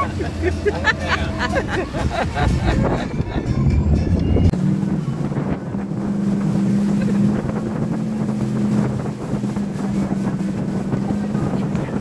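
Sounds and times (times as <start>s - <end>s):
speedboat engine drone: 0.0s - 12.0s
water rushing: 0.0s - 12.0s
wind buffeting microphone: 1.3s - 12.0s.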